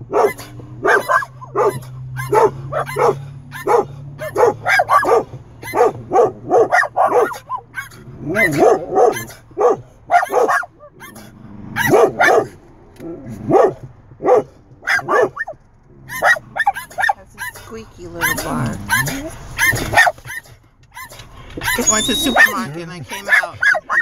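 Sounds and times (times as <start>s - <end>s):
small dog barking squeakily: 0.1s - 11.2s, 11.8s - 12.5s, 13.5s - 24.0s.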